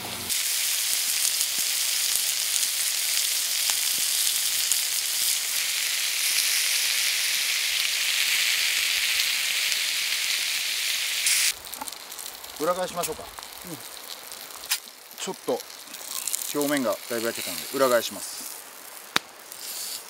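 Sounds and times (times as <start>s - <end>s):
meat sizzling in oil: 0.1s - 20.0s.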